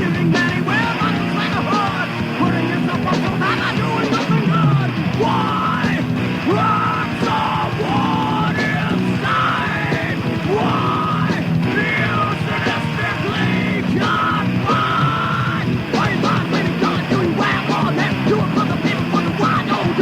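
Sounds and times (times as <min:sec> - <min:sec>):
shouted vocals: 0:00.0 - 0:20.0
thrash metal band playing: 0:00.0 - 0:20.0.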